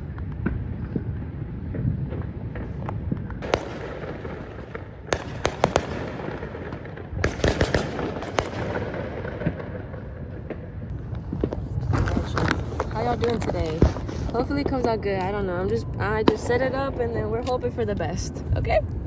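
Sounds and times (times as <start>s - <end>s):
distant fireworks: 0.0s - 19.0s.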